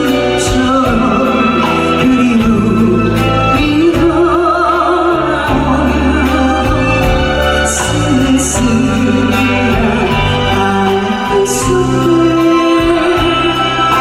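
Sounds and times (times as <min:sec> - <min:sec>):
instrumental accompaniment with bass: 0:00.0 - 0:14.0
person singing a ballad: 0:00.0 - 0:14.0.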